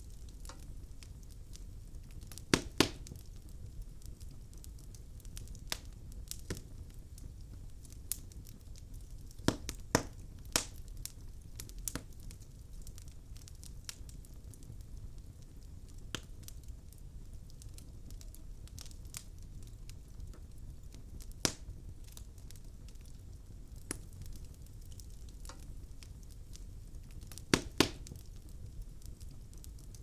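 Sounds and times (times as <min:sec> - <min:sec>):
fireplace logs crackling and popping: 0:00.0 - 0:30.0.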